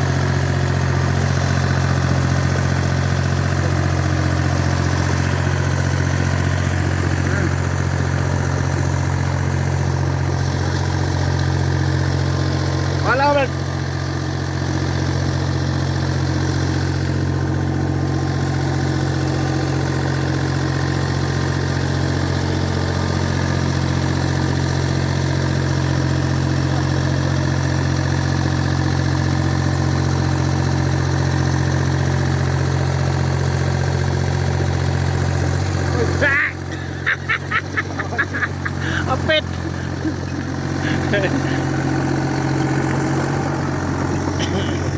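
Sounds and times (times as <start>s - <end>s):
backhoe engine running: 0.0s - 44.9s.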